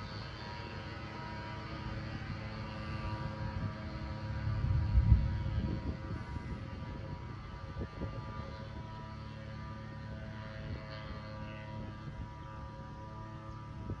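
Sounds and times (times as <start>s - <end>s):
distant aircraft engine drone: 0.0s - 14.0s
wind rumble on microphone: 0.0s - 14.0s.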